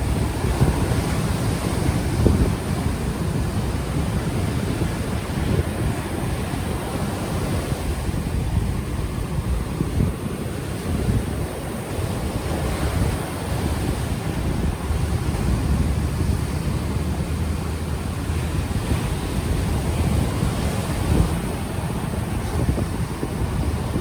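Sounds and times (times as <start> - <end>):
ocean waves washing ashore: 0.0 - 24.0
wind buffeting microphone: 0.0 - 24.0.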